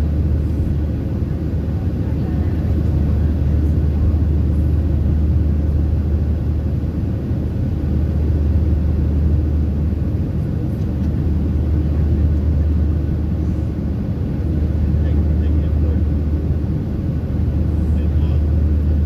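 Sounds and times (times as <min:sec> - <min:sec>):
airliner cabin engine drone: 0:00.0 - 0:19.0.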